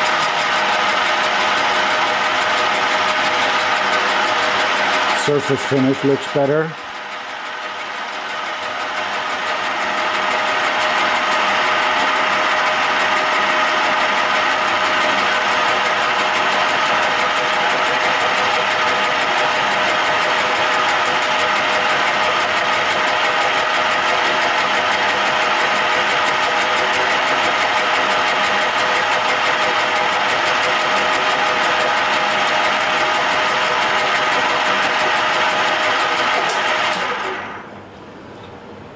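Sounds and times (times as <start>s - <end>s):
milling machine cutting steel: 0.0s - 37.7s.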